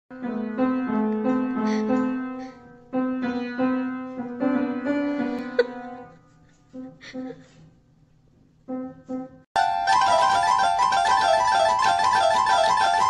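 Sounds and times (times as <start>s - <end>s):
piano notes: 0.1s - 7.1s, 8.5s - 13.0s.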